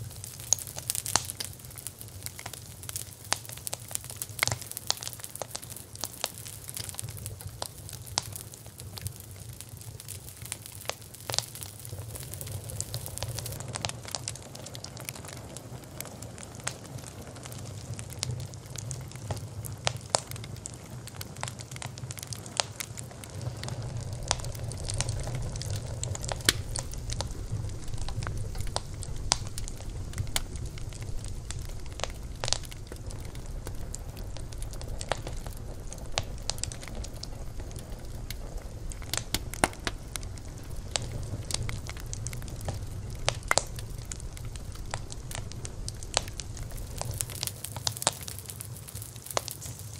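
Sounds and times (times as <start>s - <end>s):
campfire crackling and popping: 0.0s - 49.9s
low rumble of flames: 0.0s - 49.9s.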